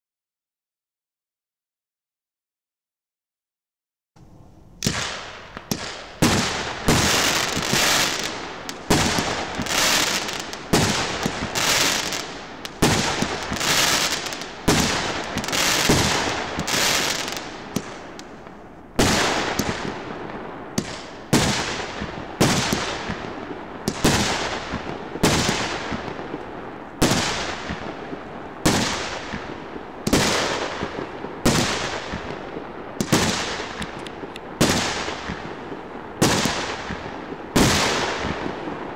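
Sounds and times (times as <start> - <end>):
fireworks shots with hiss: 4.8 - 38.9.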